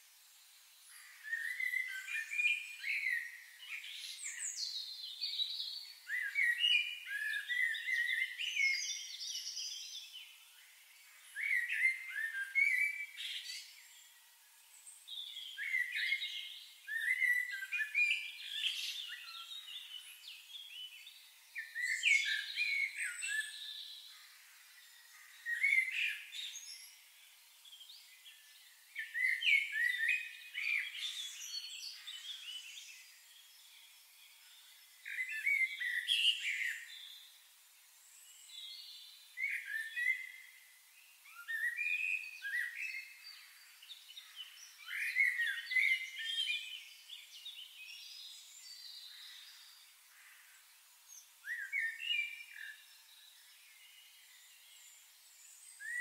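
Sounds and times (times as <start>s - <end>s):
songbirds chirping and warbling: 0.0s - 56.0s.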